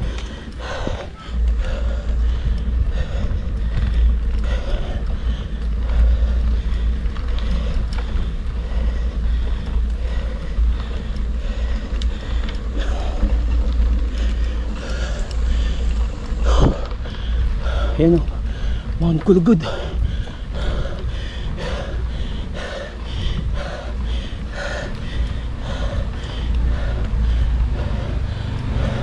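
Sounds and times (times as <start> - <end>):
bike clicks and rattles: 0.0 - 29.0
wind buffeting microphone: 0.0 - 29.0.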